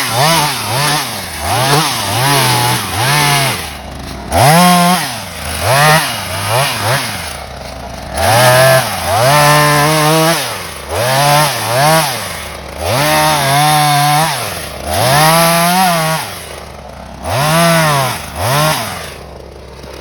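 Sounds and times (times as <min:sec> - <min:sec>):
two-stroke chainsaw revving: 0:00.0 - 0:20.0.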